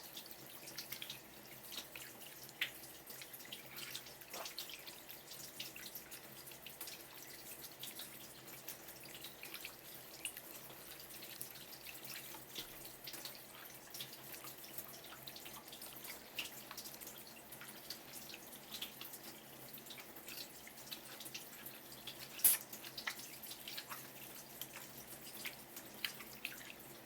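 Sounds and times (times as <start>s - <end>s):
water dripping: 0.0s - 27.0s.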